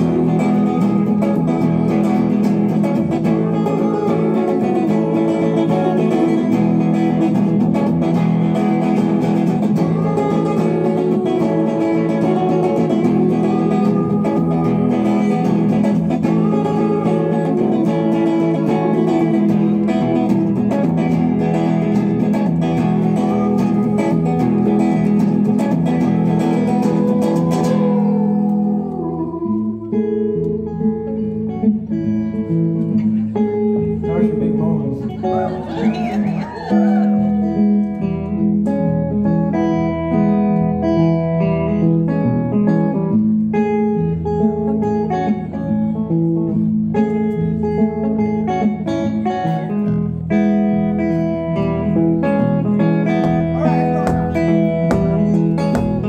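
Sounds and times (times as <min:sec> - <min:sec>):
live guitar music: 0:00.0 - 0:56.0.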